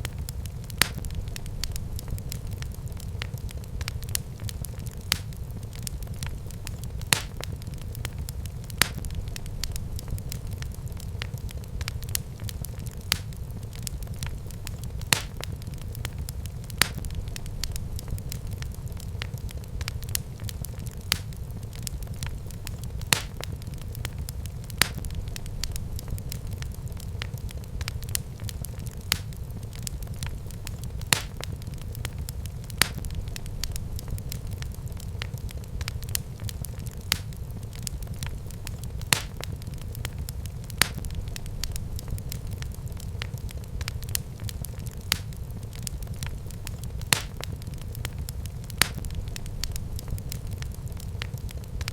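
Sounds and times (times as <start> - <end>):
fire crackling in a fireplace: 0.0 - 51.9
sharp pops of burning wood: 0.0 - 51.9.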